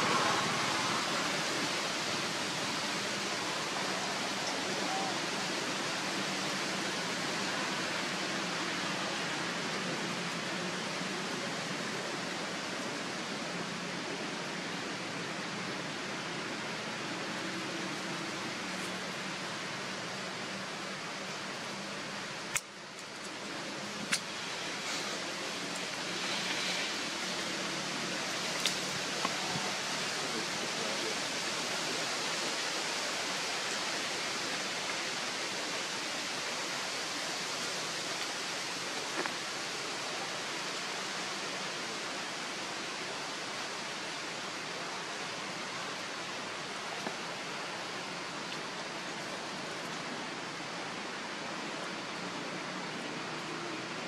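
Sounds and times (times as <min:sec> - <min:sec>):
outdoor hiss: 0:00.0 - 0:54.0.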